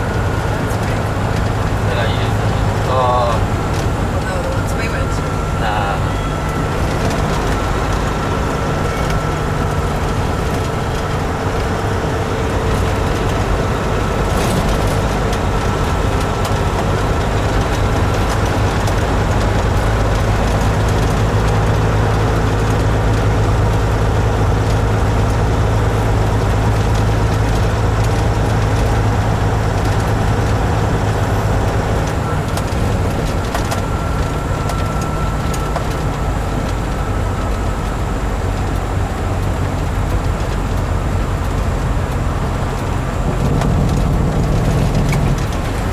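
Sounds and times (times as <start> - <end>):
diesel truck engine humming: 0.0 - 45.9.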